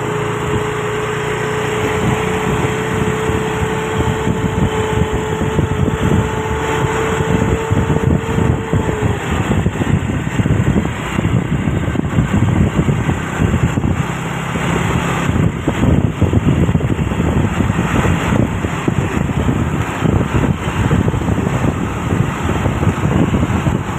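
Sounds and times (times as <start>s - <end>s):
diesel truck engine rumbling: 0.0s - 23.9s.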